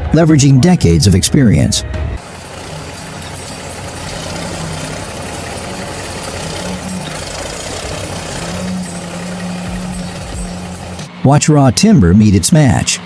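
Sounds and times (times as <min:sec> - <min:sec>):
broad mechanical noise: 0:00.0 - 0:13.0
engine running: 0:00.0 - 0:13.0.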